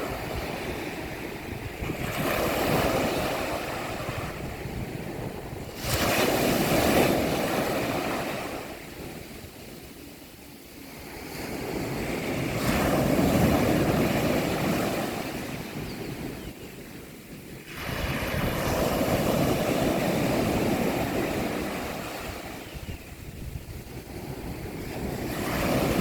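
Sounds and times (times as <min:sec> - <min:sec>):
sea waves breaking on a beach: 0:00.0 - 0:26.0.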